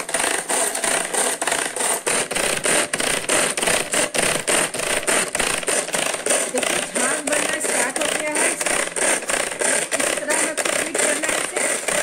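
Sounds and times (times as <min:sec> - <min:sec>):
hand-pull food chopper whirring: 0:00.0 - 0:12.0.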